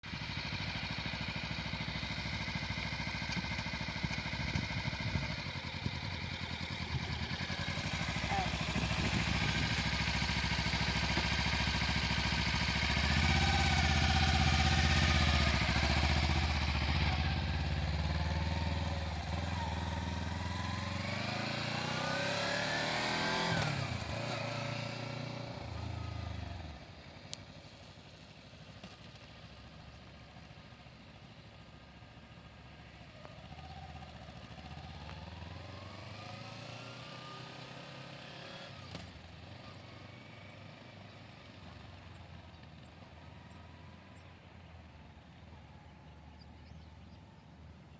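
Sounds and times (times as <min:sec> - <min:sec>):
motorcycle engine revving: 0:00.0 - 0:27.6, 0:28.3 - 0:44.3.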